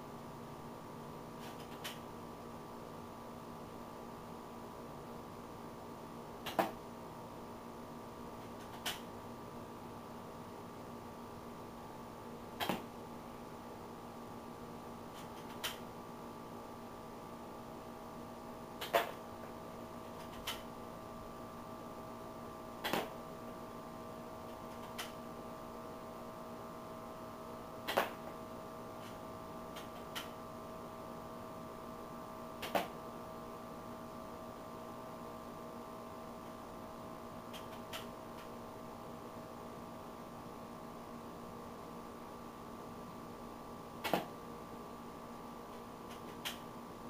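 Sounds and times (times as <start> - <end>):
air conditioner hum: 0.0 - 47.0.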